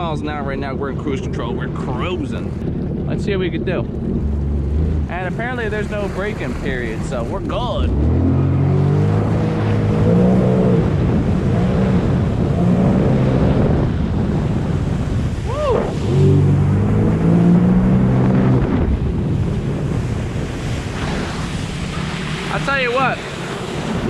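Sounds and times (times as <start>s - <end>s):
jet ski engine revving: 0.0s - 24.0s
rushing water: 0.0s - 24.0s
wind on microphone: 0.0s - 24.0s.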